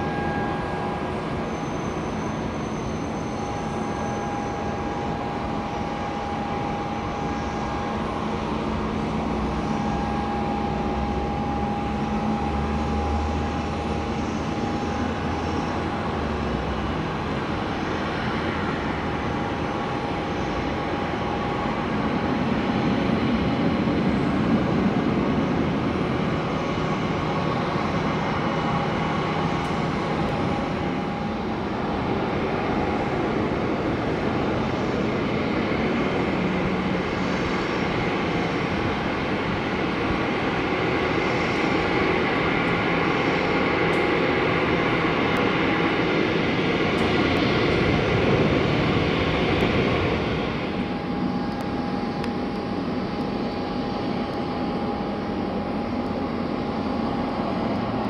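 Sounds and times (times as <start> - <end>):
jet engines rumbling with whine: 0.0 - 58.0.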